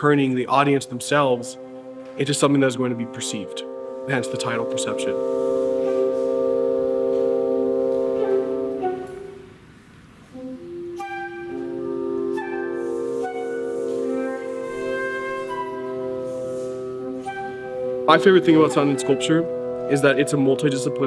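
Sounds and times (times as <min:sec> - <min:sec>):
sustained instrumental chords: 0:00.0 - 0:21.0.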